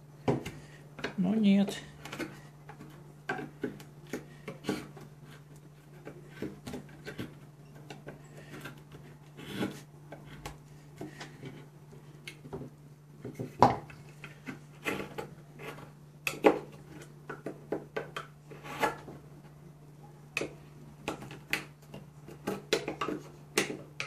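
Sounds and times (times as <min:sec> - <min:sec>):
knife cutting and scraping wood: 0:01.9 - 0:19.6, 0:20.4 - 0:24.0.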